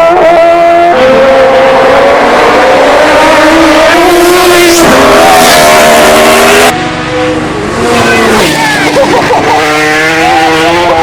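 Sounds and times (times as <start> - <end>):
motorcycle engines at high revs: 0.0 - 11.0.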